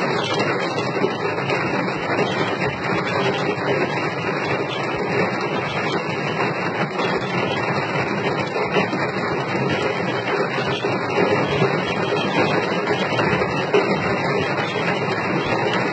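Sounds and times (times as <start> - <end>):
rain falling: 0.0 - 15.9.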